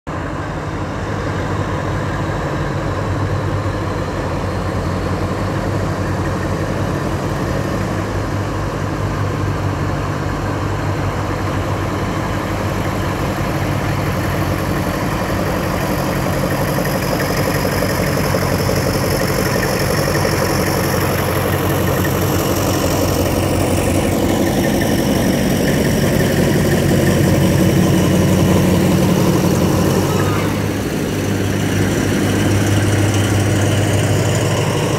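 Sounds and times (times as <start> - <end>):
diesel locomotive engines droning: 0.1 - 34.9.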